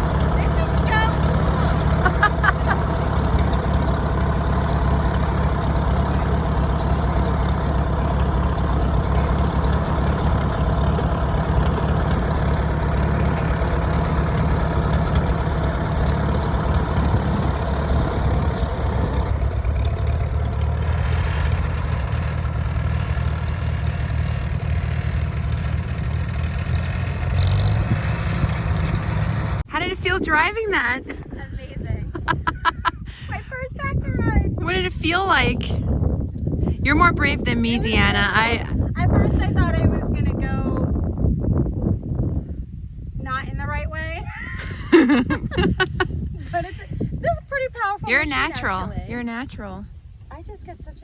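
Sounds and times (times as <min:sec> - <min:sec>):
tractor engine running: 0:00.0 - 0:42.3, 0:43.2 - 0:51.0.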